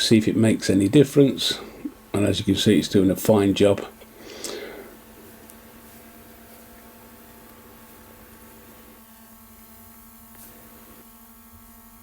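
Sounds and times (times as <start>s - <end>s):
faint electrical hum: 0.0s - 12.0s
light hiss: 0.0s - 12.0s.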